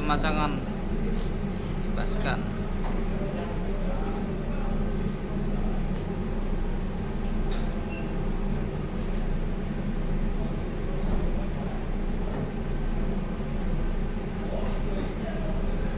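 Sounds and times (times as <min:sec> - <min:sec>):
engine-room machinery drone: 0:00.0 - 0:15.9.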